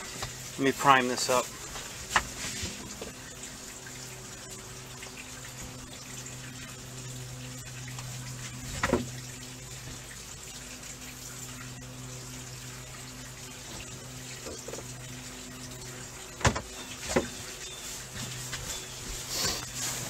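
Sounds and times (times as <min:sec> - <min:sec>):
hose water splashing: 0:00.0 - 0:20.0.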